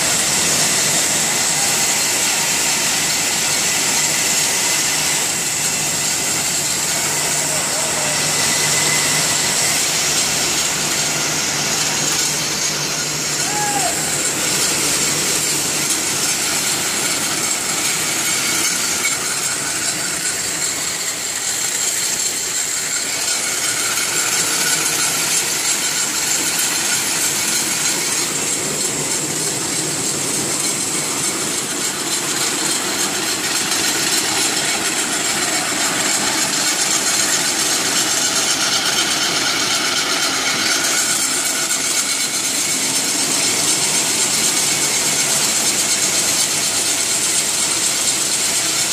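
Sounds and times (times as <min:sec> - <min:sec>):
paper rewinder machine running: 0:00.0 - 0:48.9.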